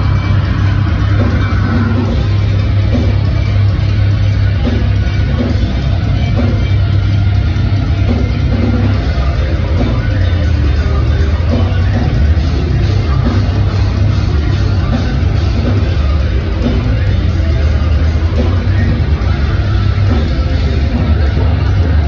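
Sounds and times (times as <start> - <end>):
loud live metal band: 0.0 - 22.0.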